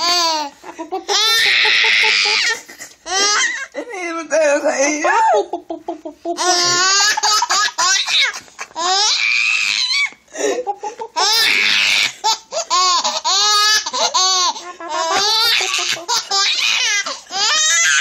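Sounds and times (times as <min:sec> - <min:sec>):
infant laughing: 0:00.0 - 0:03.8, 0:05.2 - 0:18.0.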